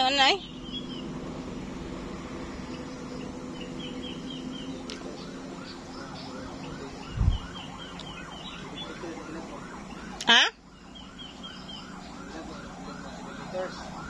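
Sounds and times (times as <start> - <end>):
distant siren yelping: 0.0 - 14.0
steady low hum: 0.0 - 14.0.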